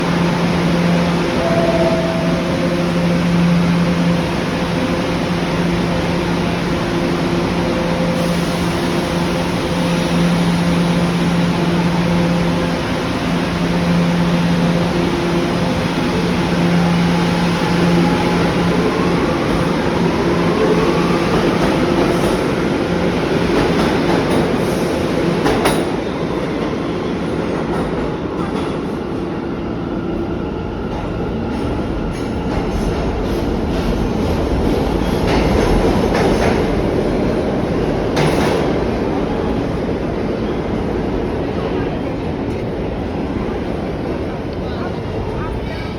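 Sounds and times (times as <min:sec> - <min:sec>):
subway train rumbling: 0:00.0 - 0:45.9.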